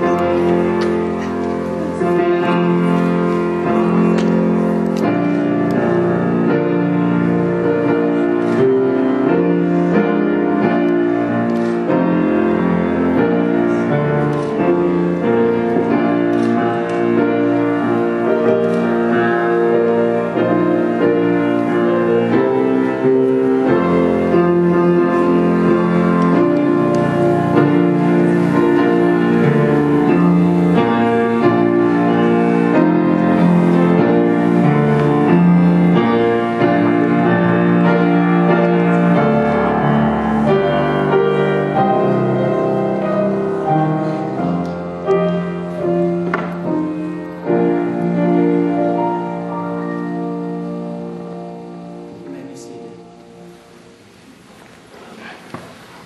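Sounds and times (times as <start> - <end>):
slow piano processional music: 0.0 - 56.0.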